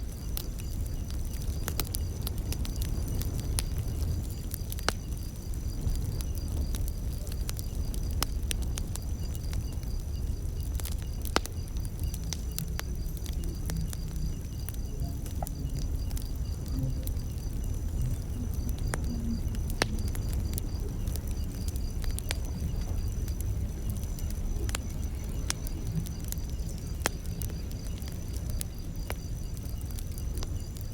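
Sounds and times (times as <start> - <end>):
high-pitched insect trill: 0.0 - 30.9
wood fire crackling: 0.0 - 30.9.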